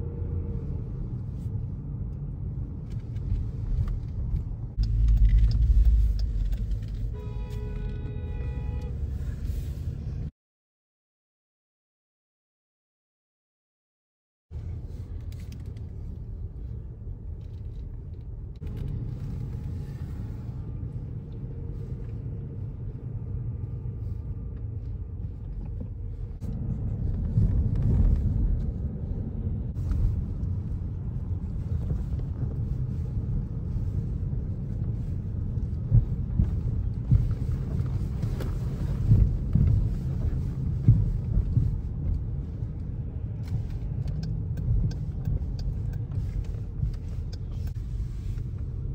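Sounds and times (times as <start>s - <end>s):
car cabin road rumble: 0.0s - 10.3s, 14.5s - 48.9s.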